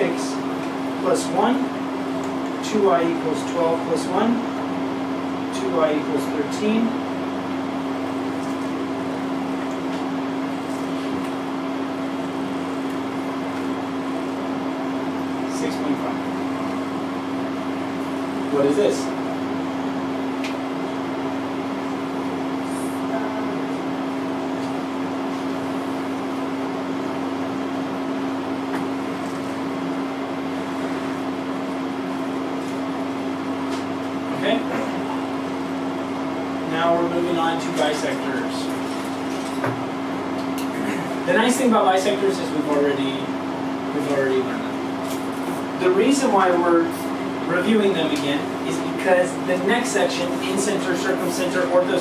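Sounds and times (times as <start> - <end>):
room equipment humming: 0.0 - 52.0.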